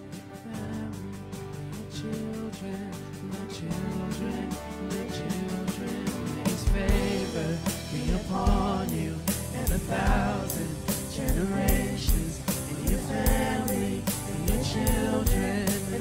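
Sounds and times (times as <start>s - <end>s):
person singing: 0.0s - 16.0s
steady drum beat: 0.0s - 16.0s
worship band playing: 0.0s - 16.0s.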